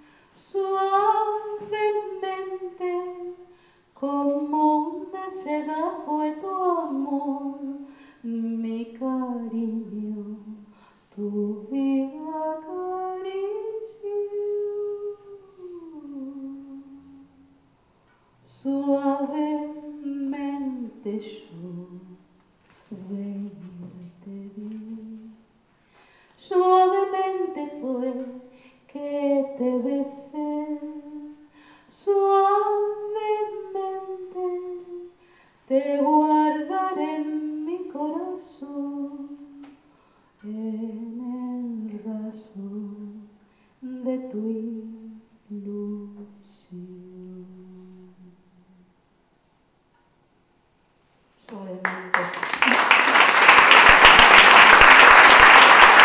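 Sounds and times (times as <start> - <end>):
woman singing unaccompanied: 0.0 - 17.6, 18.5 - 22.2, 22.9 - 25.4, 26.4 - 39.8, 40.4 - 48.8.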